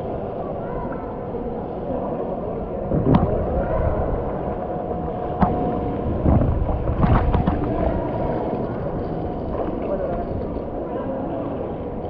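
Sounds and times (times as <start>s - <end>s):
pool water lapping and splashing: 0.0s - 12.0s.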